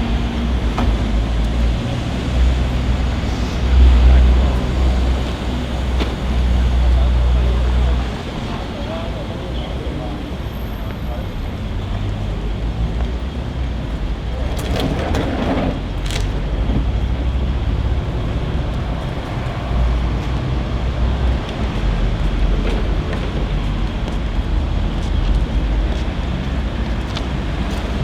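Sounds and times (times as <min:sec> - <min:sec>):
low rumble like distant traffic: 0:00.0 - 0:28.0.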